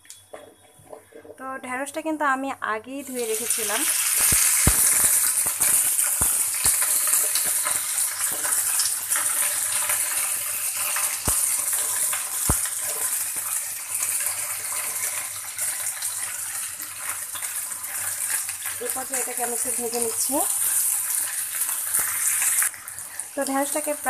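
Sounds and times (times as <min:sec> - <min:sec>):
okra sizzling in hot oil: 0:02.9 - 0:24.0.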